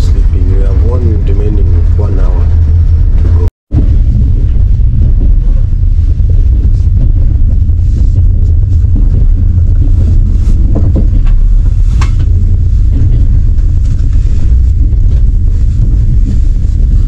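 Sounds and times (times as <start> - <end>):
train rumbling inside carriage: 0.0 - 17.0.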